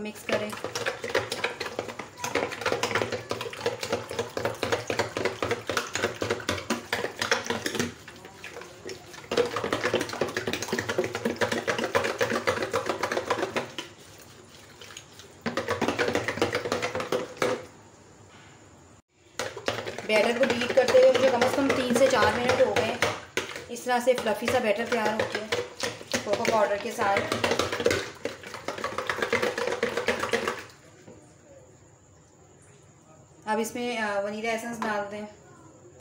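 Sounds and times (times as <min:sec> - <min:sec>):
wire whisk beating batter: 0:00.0 - 0:17.6, 0:19.4 - 0:30.7.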